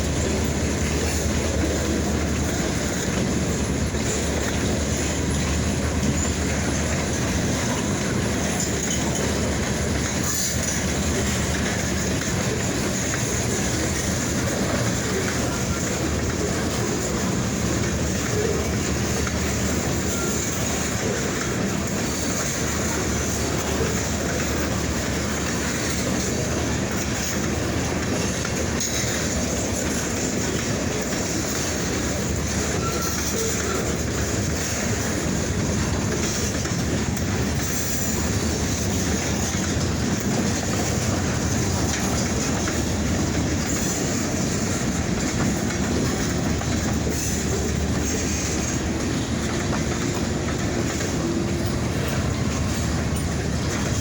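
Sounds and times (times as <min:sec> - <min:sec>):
freight train rumbling past: 0:00.0 - 0:54.0
steel wheels rattling on rails: 0:00.0 - 0:54.0.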